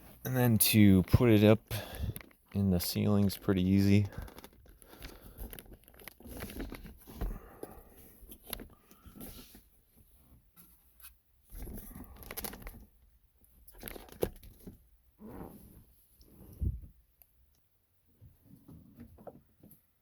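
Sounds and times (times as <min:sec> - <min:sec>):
plastic rustling and scraping: 0:00.0 - 0:16.9.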